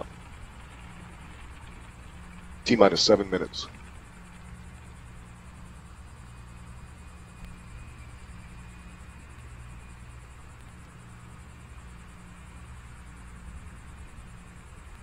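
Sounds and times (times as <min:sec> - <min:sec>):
insects chirring: 0:00.0 - 0:15.0
low hum: 0:00.0 - 0:15.0.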